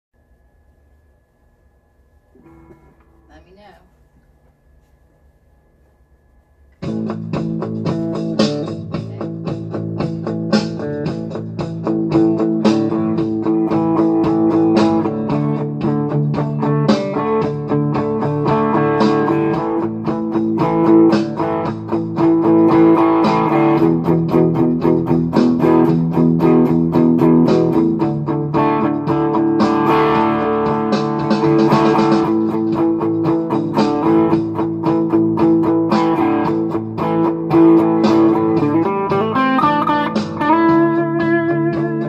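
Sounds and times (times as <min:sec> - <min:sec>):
guitar playing: 0:02.4 - 0:03.6, 0:06.8 - 0:42.0.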